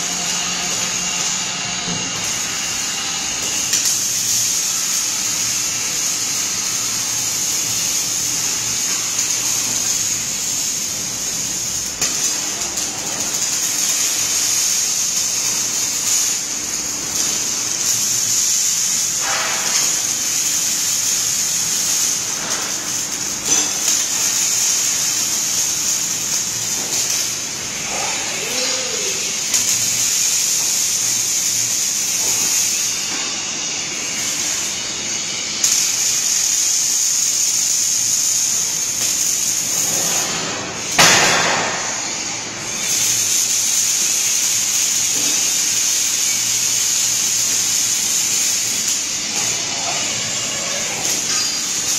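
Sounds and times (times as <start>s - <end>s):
arc welding hiss: 0.0s - 51.9s.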